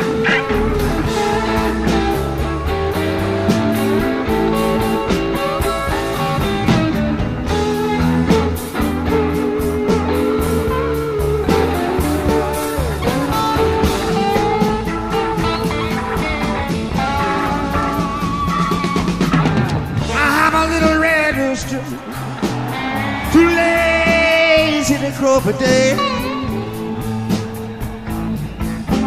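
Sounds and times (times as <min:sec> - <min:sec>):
blues-rock guitar music: 0:00.0 - 0:29.0.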